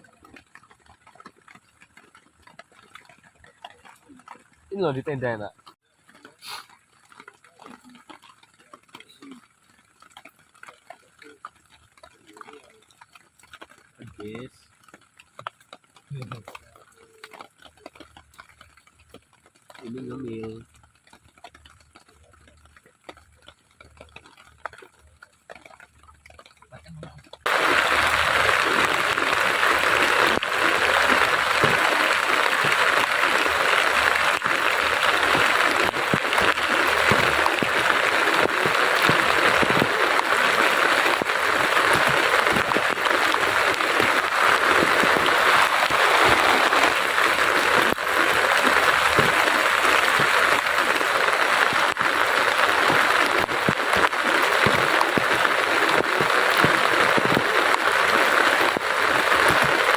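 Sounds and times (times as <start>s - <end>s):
heavy rain falling: 0.0s - 23.2s, 23.8s - 59.9s.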